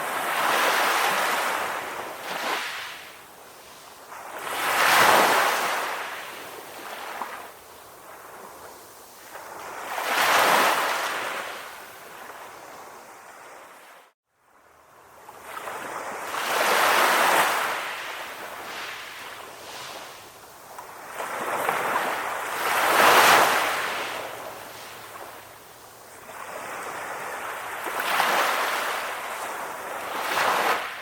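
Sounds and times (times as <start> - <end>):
ocean waves washing onto shore: 0.0 - 31.0.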